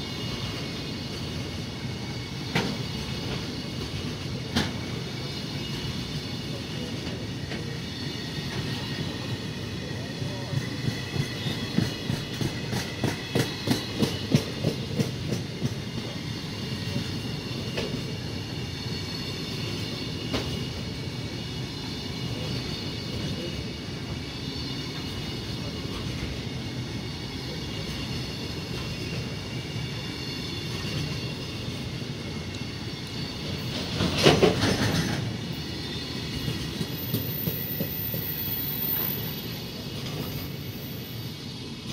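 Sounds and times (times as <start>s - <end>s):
freight train wheels rumbling: 0.0s - 41.9s
train wheels clickety-clack: 0.0s - 41.9s.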